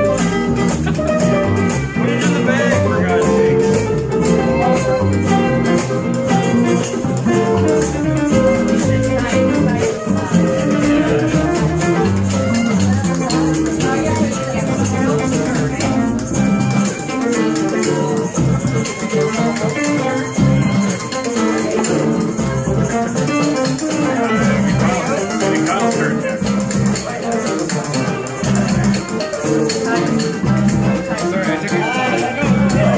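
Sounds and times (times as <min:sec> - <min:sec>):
acoustic guitars strummed: 0:00.0 - 0:32.9
maracas shaking: 0:00.0 - 0:32.9.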